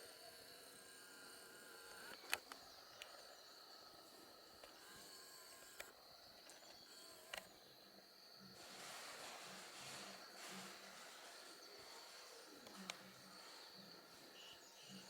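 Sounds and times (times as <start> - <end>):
faint high insect drone: 0.0 - 15.0.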